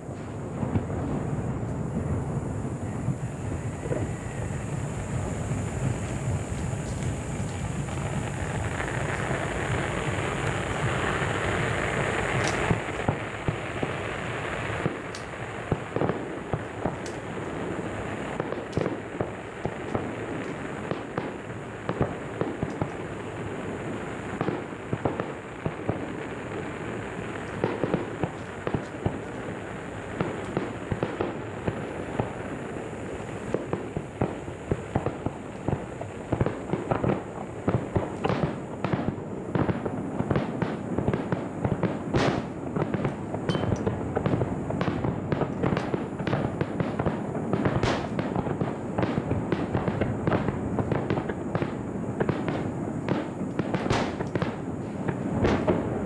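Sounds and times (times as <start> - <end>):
fireworks bangs and pops: 0.0 - 56.0
fireworks crackling and hissing: 0.0 - 56.0.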